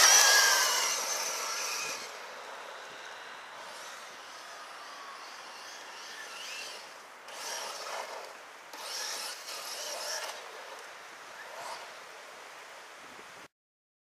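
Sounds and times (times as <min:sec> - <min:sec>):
rc car motor and tyres hissing: 0:00.0 - 0:12.4.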